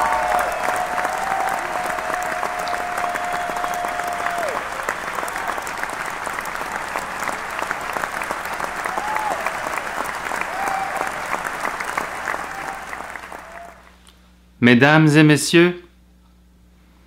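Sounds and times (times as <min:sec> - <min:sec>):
crowd applauding: 0:00.0 - 0:13.9
crowd cheering: 0:00.0 - 0:13.9.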